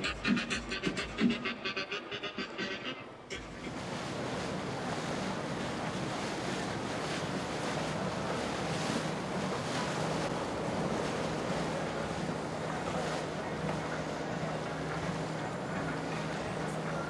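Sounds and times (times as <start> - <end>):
boat engine humming: 0.0 - 17.0
water wash: 3.2 - 17.0.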